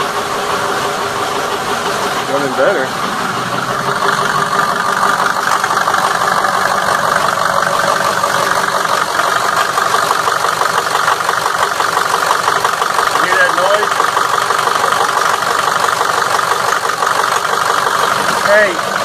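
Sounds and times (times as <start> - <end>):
diesel engine idling clatter: 0.0 - 19.0.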